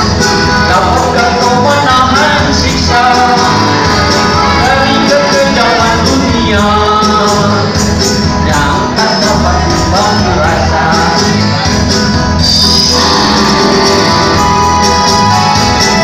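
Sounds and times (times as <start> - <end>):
song sung over band: 0.0 - 16.0
steady percussion beat: 0.0 - 16.0.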